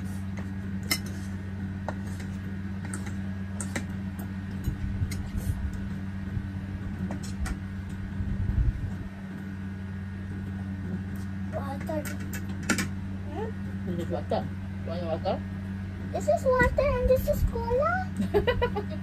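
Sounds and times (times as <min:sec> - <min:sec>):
low electric hum: 0:00.0 - 0:19.0.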